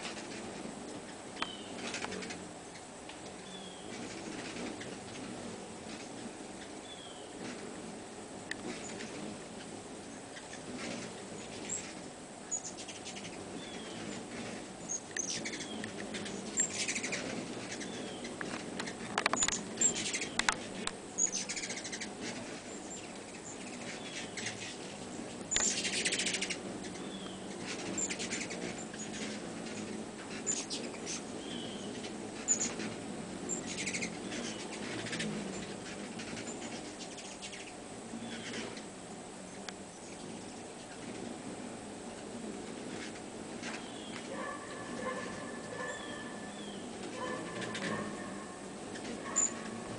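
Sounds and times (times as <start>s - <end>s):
hummingbirds chipping: 0.0s - 49.9s
low background hum: 0.0s - 49.9s.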